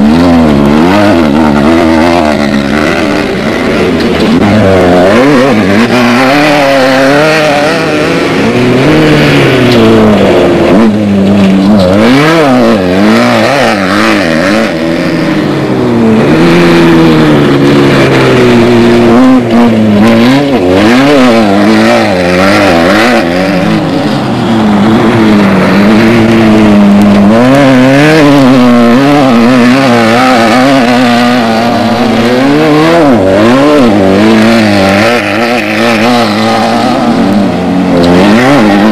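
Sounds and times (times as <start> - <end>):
race vehicle engines revving: 0.0 - 38.9.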